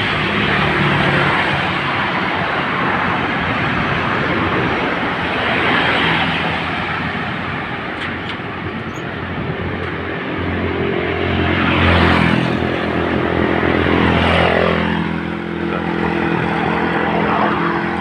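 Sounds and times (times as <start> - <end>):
rushing wind: 0.0 - 18.0
vehicle road noise: 0.0 - 18.0.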